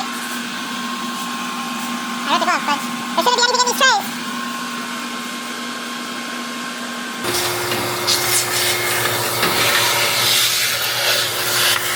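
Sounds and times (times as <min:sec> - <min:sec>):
vacuum cleaner humming: 0:00.0 - 0:11.9.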